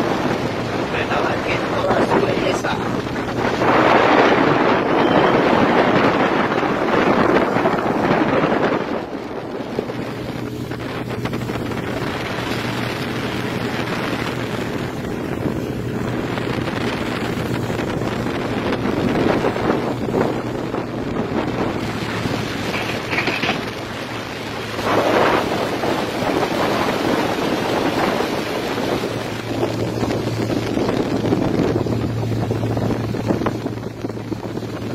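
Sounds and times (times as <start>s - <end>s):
boat motor humming: 0.0s - 34.9s
water rushing: 0.0s - 34.9s
wind buffeting the microphone: 0.0s - 34.9s.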